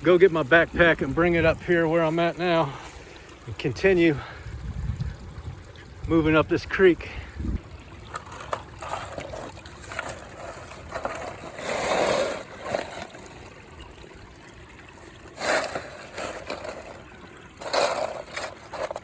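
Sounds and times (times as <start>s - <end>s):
creek trickling: 0.0s - 19.0s.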